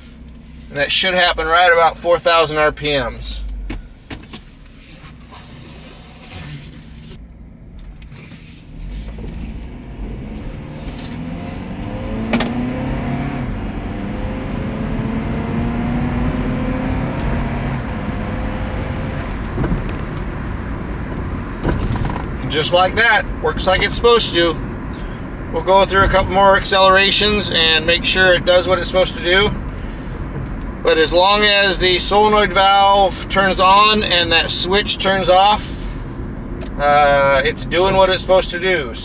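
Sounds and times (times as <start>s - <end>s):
car engine accelerating: 0.0s - 39.0s
road and tyre noise: 0.0s - 39.0s.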